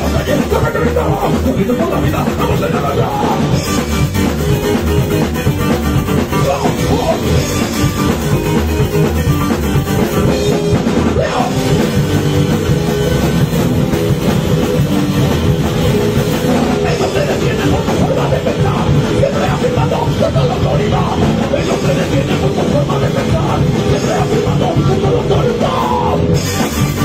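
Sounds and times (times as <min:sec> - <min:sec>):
bass guitar: 0:00.0 - 0:27.0
drum kit: 0:00.0 - 0:27.0
electric guitar: 0:00.0 - 0:27.0.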